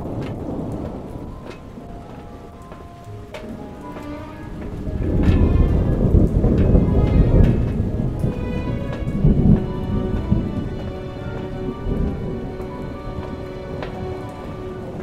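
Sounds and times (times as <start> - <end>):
rain falling: 0.0 - 15.0
rolling thunder rumble: 0.0 - 15.0
sustained music tones: 0.0 - 15.0.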